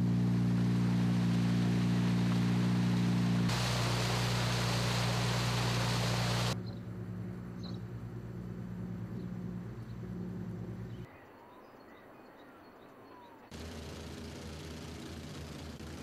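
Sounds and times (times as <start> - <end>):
engine humming: 0.0 - 11.1, 13.5 - 16.0.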